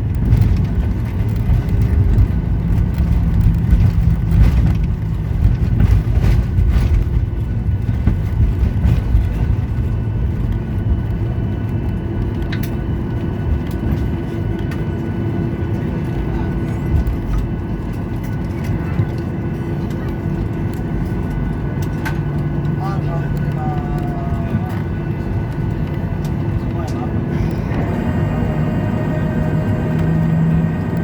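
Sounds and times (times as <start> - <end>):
heavy rumble of wheels on runway: 0.0 - 31.0
jet engine hum: 0.0 - 31.0.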